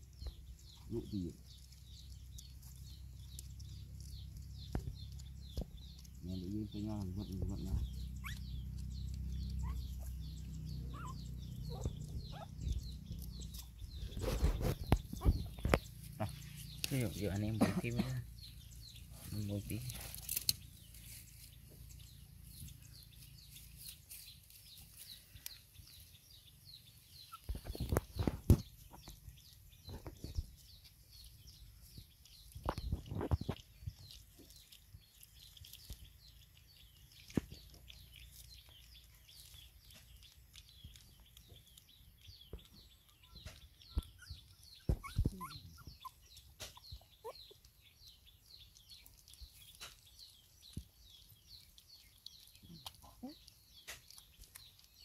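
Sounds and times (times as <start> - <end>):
birds chirping: 0.0 - 55.0
puppies eating from a bowl: 0.0 - 55.0.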